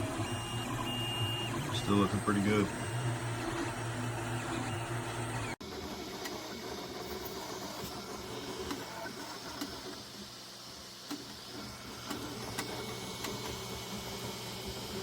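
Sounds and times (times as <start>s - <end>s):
three d printer whirring: 0.0s - 15.0s.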